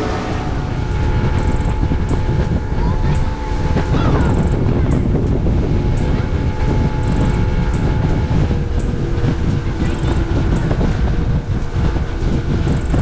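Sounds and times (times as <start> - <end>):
boat engine running: 0.0 - 13.0
water rushing: 0.0 - 13.0
wind buffeting microphone: 0.0 - 13.0.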